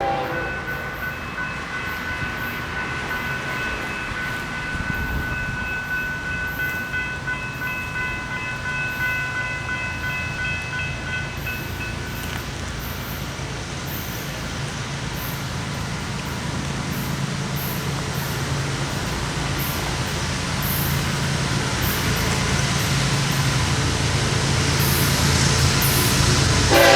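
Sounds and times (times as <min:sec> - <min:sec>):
freight train rumbling: 0:00.0 - 0:26.9.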